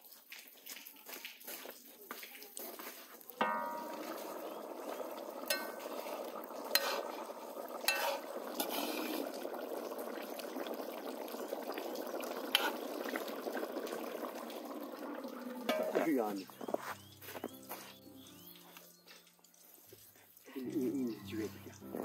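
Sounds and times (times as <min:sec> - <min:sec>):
rice and broth bubbling: 0:00.0 - 0:22.0.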